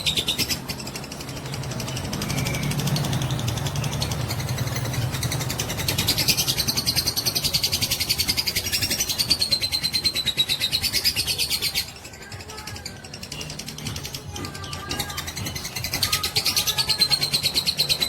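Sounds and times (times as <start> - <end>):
lovebird chattering trill: 0.0 - 18.0.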